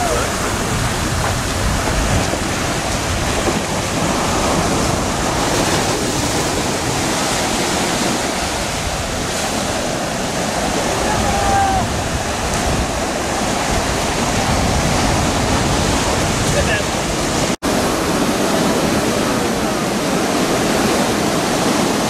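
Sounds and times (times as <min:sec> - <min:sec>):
ocean surf breaking: 0:00.0 - 0:22.0
wind rumbling on microphone: 0:00.0 - 0:22.0.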